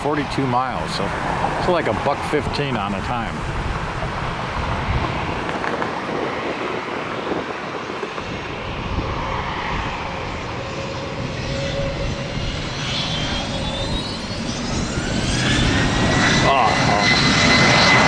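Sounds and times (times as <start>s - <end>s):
jet engines rumbling with whine: 0.0s - 18.0s.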